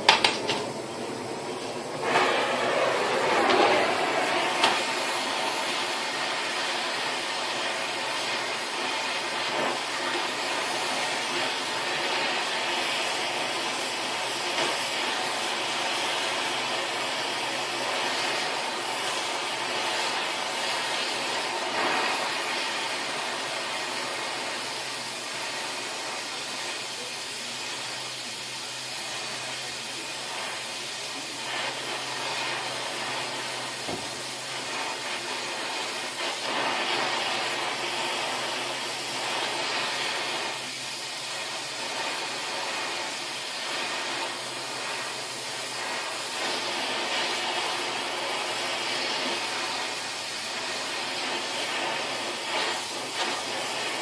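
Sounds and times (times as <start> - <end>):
gas torch hissing: 0.0 - 54.0.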